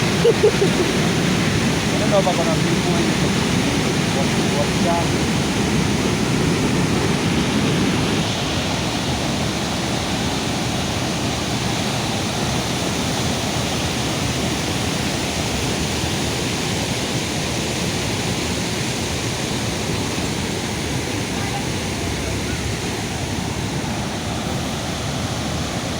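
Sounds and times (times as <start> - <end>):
rushing floodwater roar: 0.0 - 25.9.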